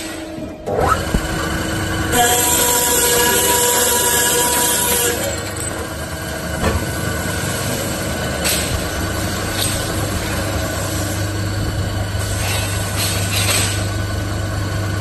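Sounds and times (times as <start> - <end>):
high machine whine: 0.0 - 15.0
pipe cutting machine humming: 0.0 - 15.0.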